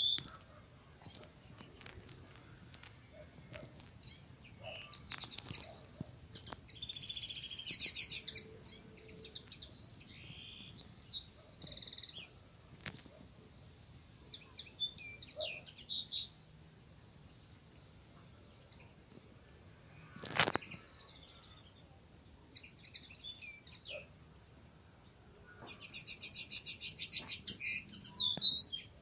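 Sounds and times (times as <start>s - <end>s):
bird singing: 0.0s - 13.1s, 14.2s - 24.2s, 25.0s - 29.0s.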